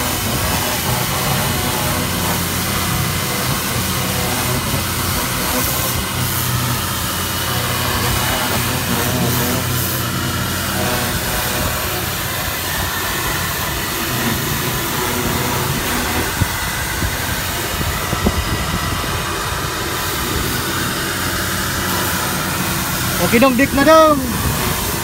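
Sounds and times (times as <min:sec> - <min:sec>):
pressure washer motor humming: 0:00.0 - 0:25.0
water jet hissing: 0:00.0 - 0:25.0.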